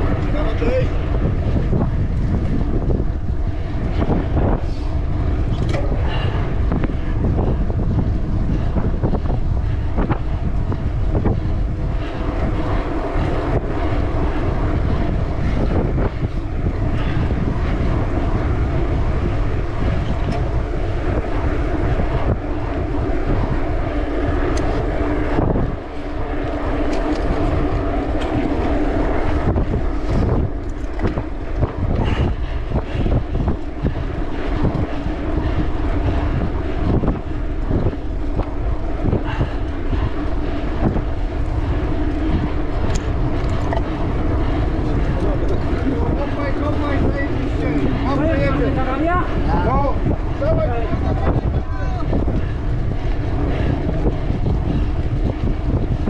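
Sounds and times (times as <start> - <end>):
bike tyres droning: 0.0 - 56.0
wind rushing over microphone: 0.0 - 56.0.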